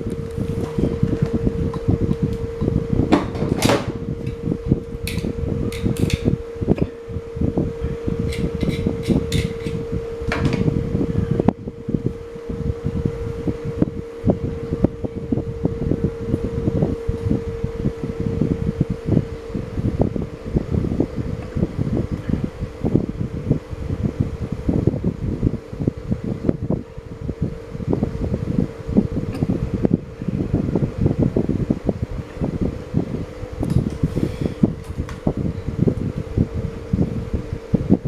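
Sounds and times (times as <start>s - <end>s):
electric fan motor hum: 0.0s - 38.0s
wind buffeting microphone: 0.0s - 38.0s.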